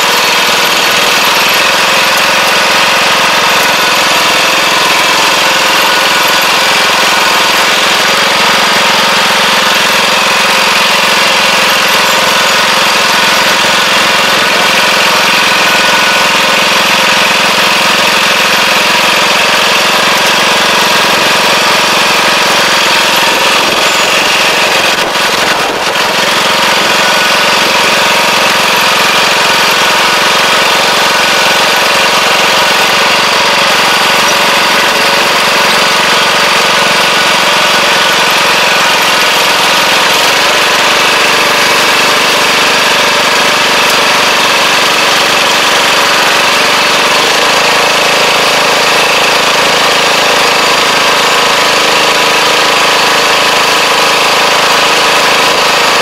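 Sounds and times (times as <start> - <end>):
farm machine engine running: 0.0 - 56.0.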